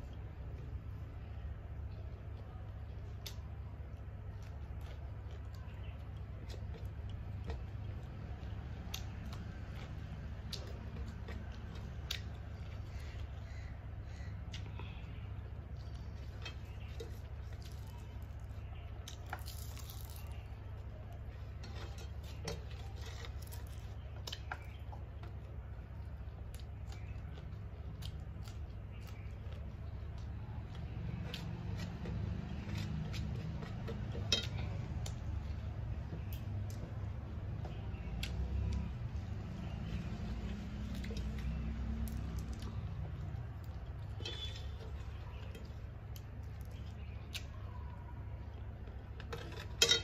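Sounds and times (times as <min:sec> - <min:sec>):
fingers squishing rice: 0:00.0 - 0:49.8
chewing: 0:00.0 - 0:50.0.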